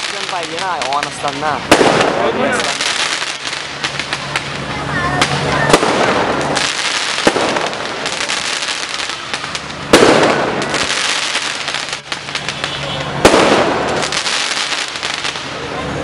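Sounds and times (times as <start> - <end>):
fireworks bang: 0.0 - 15.6
fireworks crackling and popping: 0.0 - 16.0.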